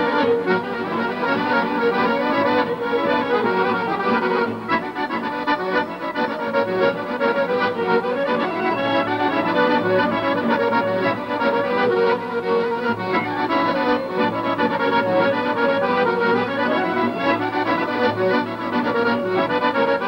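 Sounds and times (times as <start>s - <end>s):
folk dance music with accordion: 0.0s - 20.0s.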